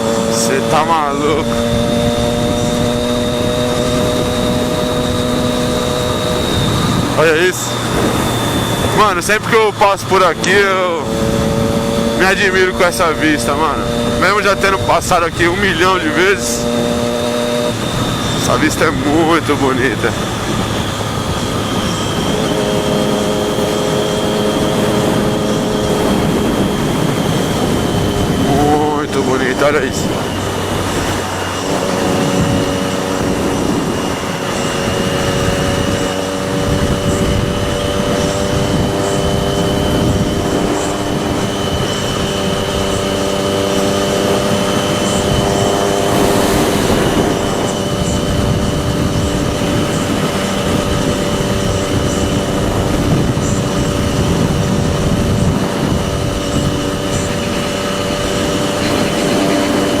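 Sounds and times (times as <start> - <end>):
motorcycle engine cruising: 0.0 - 60.0
wind rushing: 0.0 - 60.0.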